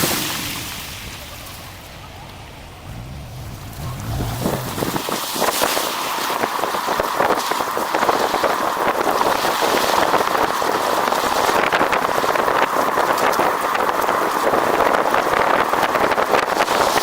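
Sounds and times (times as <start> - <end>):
road noise while riding: 0.0 - 17.0
tyres crackling through slush: 0.0 - 17.0
wind on microphone: 2.7 - 17.0.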